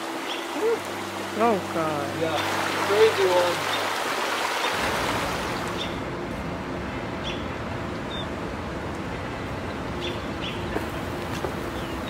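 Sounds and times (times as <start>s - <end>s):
wind rumble: 0.9s - 12.0s.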